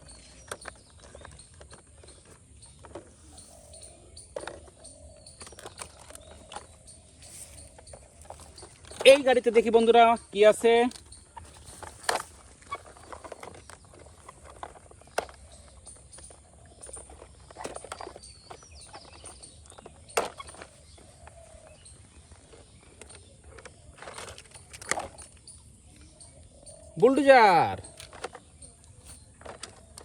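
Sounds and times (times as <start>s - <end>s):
plastic toys clicking and knocking: 0.0s - 26.2s, 26.9s - 30.0s.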